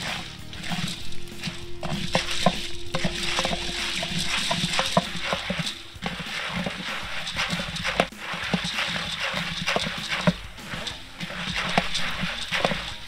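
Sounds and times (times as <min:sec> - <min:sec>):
hot oil hissing: 0:00.0 - 0:13.0
popcorn kernels rattling: 0:00.0 - 0:13.0
wooden paddle scraping metal pot: 0:00.0 - 0:13.0.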